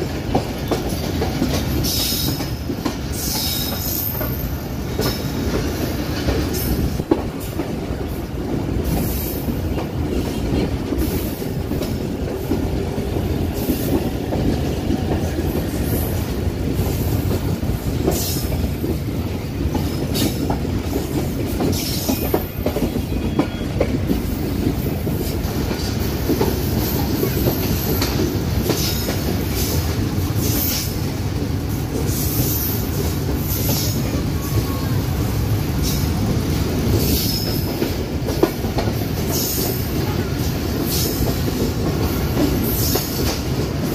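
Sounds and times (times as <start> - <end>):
steel wheels rumbling on rails: 0.0 - 43.9.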